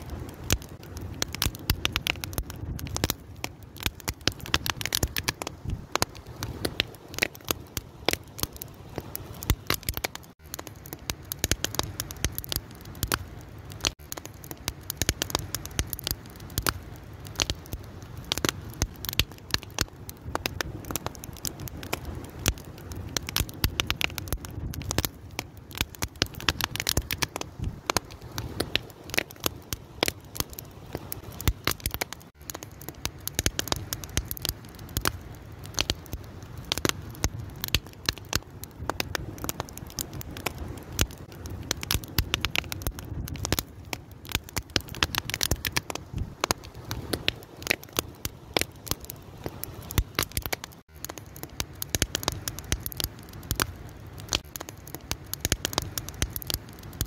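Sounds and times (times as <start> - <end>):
fire crackling and popping: 0.0 - 57.0
low rumble of burning: 0.0 - 57.0.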